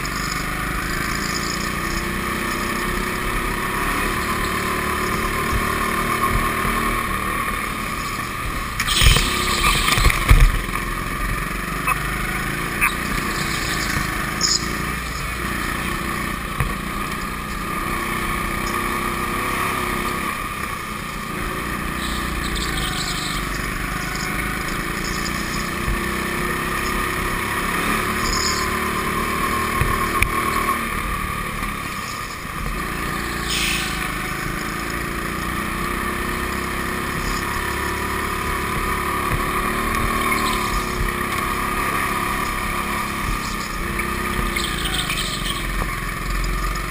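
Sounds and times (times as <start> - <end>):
go-kart motor drone: 0.0 - 46.9.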